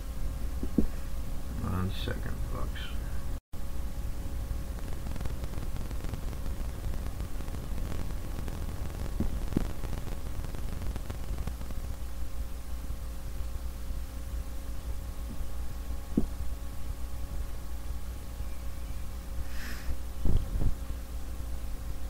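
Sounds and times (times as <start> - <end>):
low hum and rumble: 0.0 - 22.0
steady hiss: 0.0 - 22.0.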